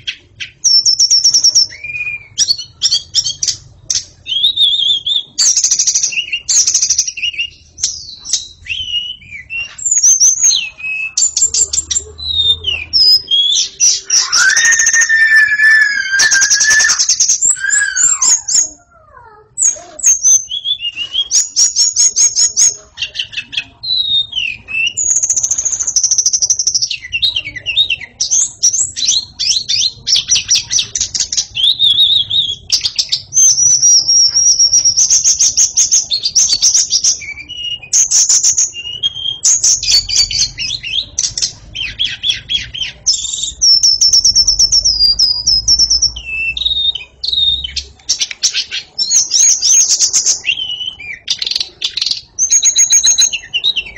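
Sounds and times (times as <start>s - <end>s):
songbird singing trills and whistles: 0.0s - 53.9s.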